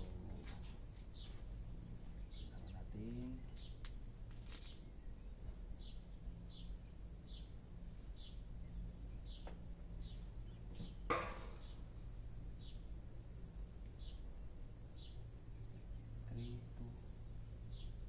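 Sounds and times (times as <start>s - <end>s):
low background hum: 0.0s - 18.0s
small bird chirping: 0.0s - 18.0s.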